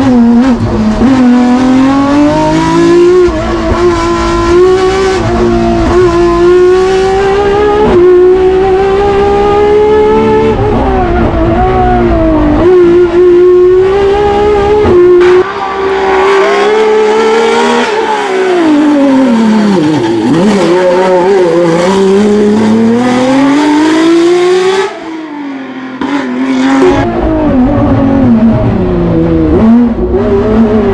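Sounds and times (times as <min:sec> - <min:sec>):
race car engine revving: 0:00.0 - 0:30.9.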